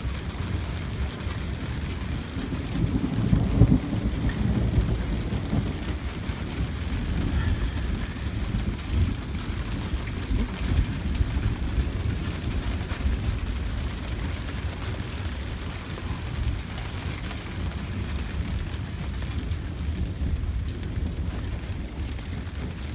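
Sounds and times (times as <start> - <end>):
rain: 0.0 - 22.9
wind buffeting microphone: 0.0 - 22.9.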